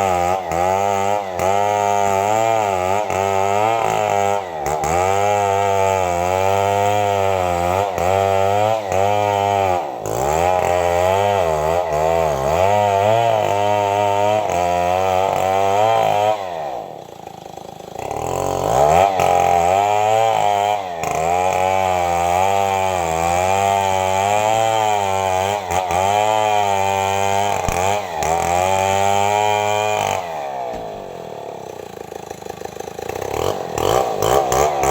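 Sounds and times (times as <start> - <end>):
chainsaw cutting at full throttle: 0.0 - 34.9.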